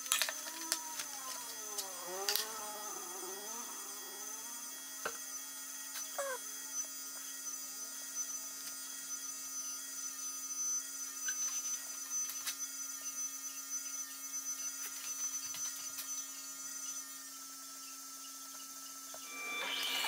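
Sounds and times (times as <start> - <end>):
faint high whine: 0.0 - 20.0
steady hum: 0.8 - 11.2, 12.8 - 20.0.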